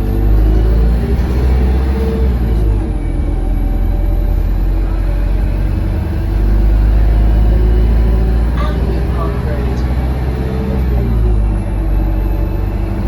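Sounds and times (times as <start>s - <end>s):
bus engine droning from inside: 0.0s - 13.0s.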